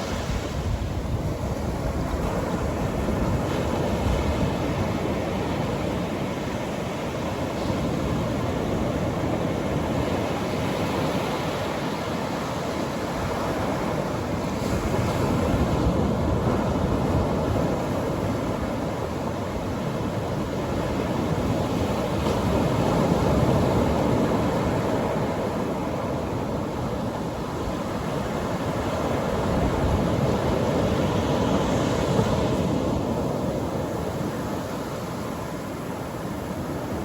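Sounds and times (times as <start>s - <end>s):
surf washing on beach: 0.0s - 37.0s.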